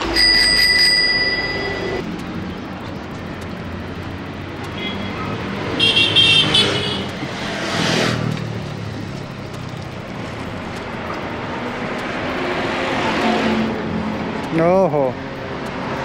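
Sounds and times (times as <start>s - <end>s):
steady traffic rumble: 0.0s - 16.0s
vehicles passing: 0.0s - 16.0s.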